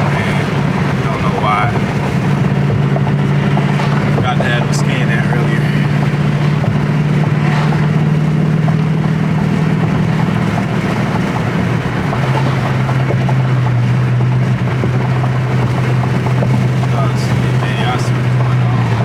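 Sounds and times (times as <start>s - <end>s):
car engine drone inside cabin: 0.0s - 19.0s.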